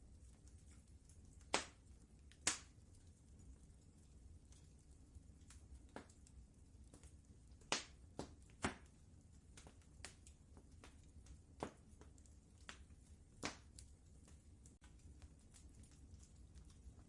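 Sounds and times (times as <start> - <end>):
faint low rumble: 0.0 - 17.0
wood fire crackling: 0.0 - 17.0.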